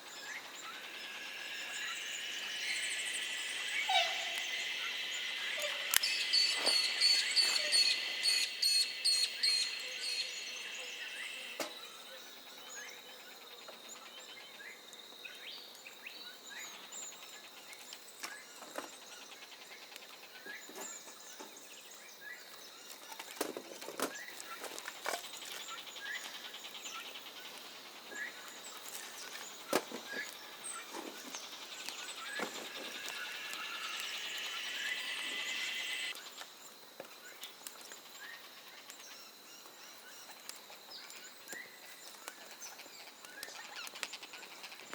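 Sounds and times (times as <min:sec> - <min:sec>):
high insect trill: 0:00.0 - 0:14.7, 0:15.8 - 0:44.9
small birds chirping: 0:00.0 - 0:44.9.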